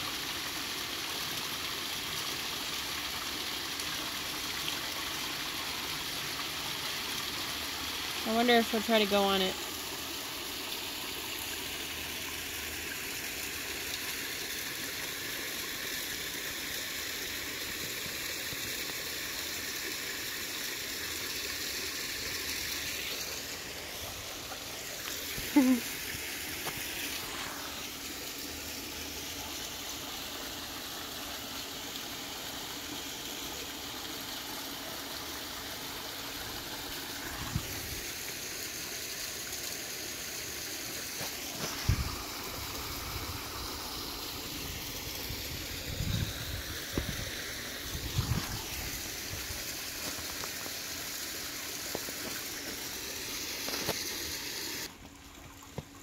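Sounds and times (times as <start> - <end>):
waterfall running into pool: 0.0 - 56.0.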